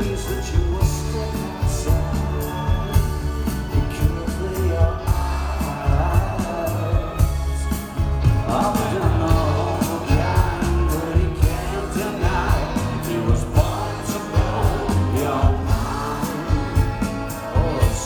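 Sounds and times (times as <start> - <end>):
heavy bass: 0.0 - 18.0
live rock band: 0.0 - 18.0
man singing lead: 0.0 - 18.0
steady drum beat: 0.0 - 18.0.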